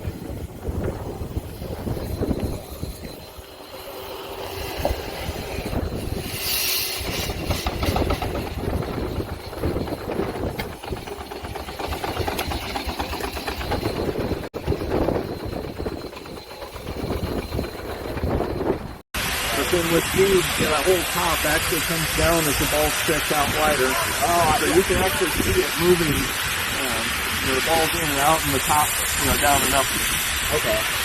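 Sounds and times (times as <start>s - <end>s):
steam traction engine running: 0.0s - 31.0s
steam hiss: 0.7s - 13.7s, 19.2s - 31.0s.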